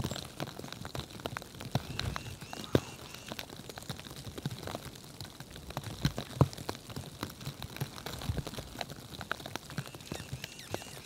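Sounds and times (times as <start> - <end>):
snow pattering ticks: 0.0 - 11.0.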